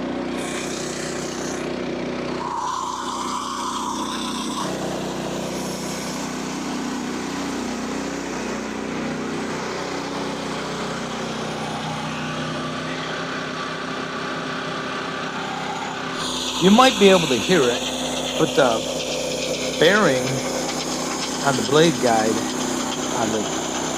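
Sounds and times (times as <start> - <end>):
small gas engine droning: 0.0 - 23.9
band saw blade cutting: 0.3 - 1.8, 2.4 - 23.9.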